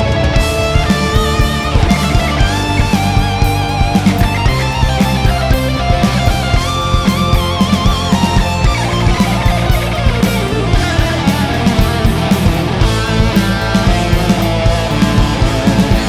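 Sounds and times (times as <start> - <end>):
distorted electric guitar lead: 0.0 - 16.0
heavy metal band playing: 0.0 - 16.0.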